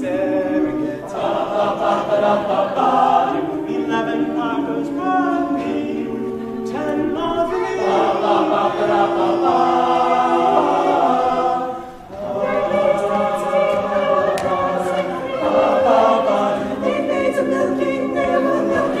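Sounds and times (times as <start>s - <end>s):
a cappella group singing harmony: 0.0s - 19.0s.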